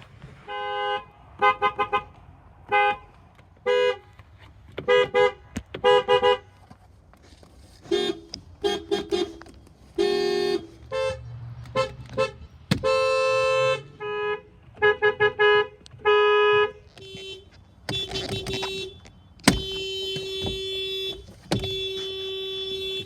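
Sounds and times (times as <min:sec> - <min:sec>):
car horns honking: 0:00.0 - 0:06.7, 0:07.8 - 0:23.0.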